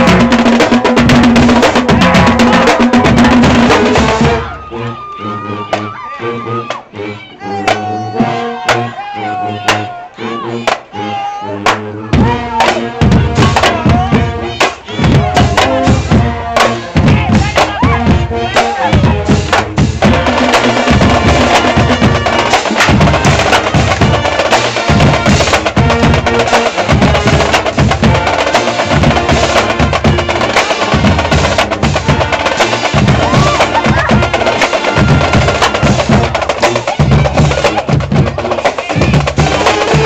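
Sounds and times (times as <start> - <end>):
snare and tenor drums: 0.0 - 4.6, 11.6 - 40.0.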